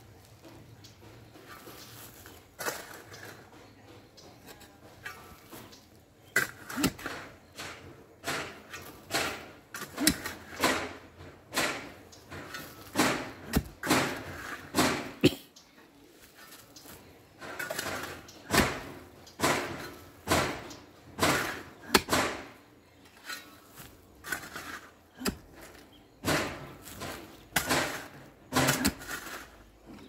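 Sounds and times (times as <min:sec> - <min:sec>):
digging tool striking stony soil: 0:00.2 - 0:15.2, 0:16.2 - 0:30.0.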